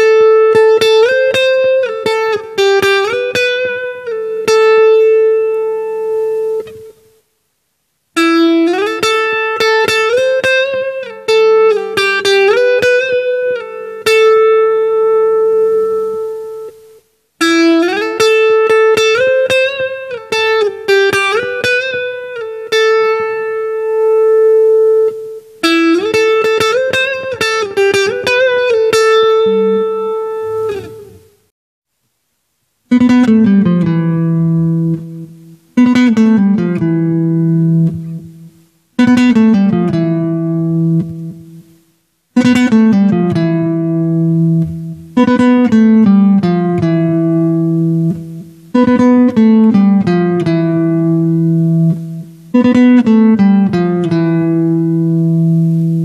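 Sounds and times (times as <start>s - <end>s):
clean electric guitar lead: 0.0s - 7.2s, 8.2s - 31.5s, 32.9s - 41.8s, 42.4s - 56.0s.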